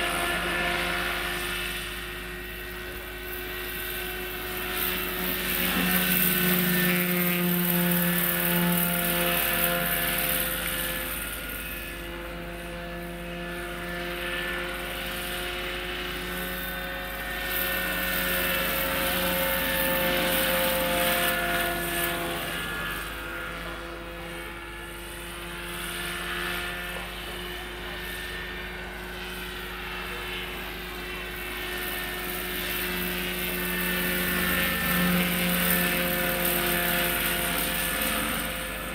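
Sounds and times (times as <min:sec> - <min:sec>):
model helicopter hum and whine: 0:00.0 - 0:38.9.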